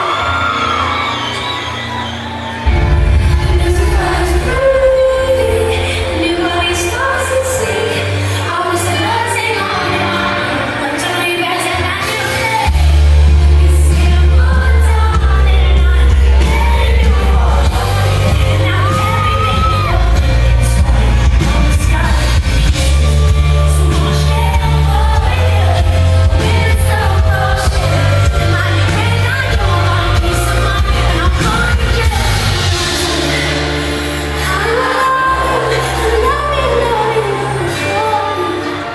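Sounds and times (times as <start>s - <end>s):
live band with deep bass: 0.0s - 38.9s
woman singing a slow ballad: 2.7s - 38.9s.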